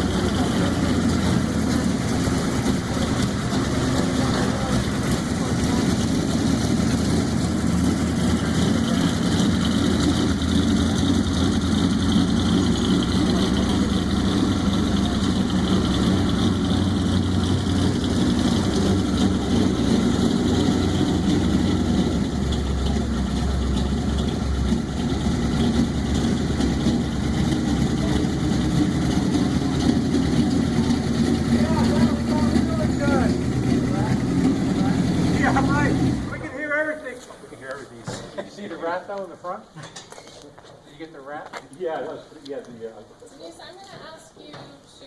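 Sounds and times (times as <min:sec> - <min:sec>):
engine idling: 0:00.0 - 0:39.5.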